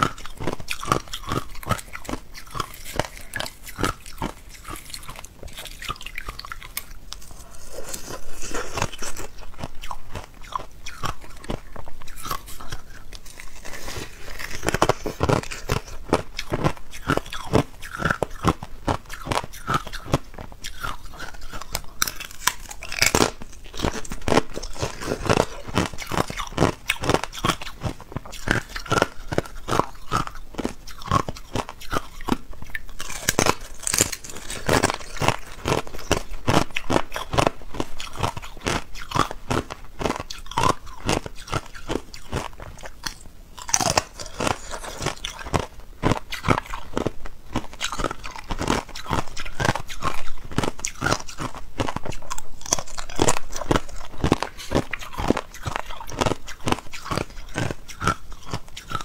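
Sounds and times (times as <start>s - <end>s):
ice being bitten and chewed: 0.0s - 59.0s.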